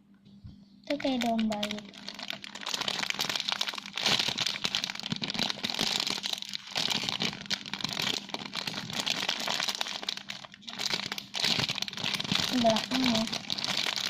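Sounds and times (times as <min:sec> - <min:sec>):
plastic crinkling: 0:00.9 - 0:14.0.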